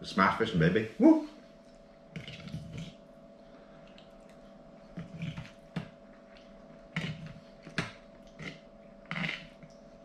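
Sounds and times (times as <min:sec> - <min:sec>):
faint steady hum: 0:00.0 - 0:10.0
person chewing and breathing: 0:01.5 - 0:10.0.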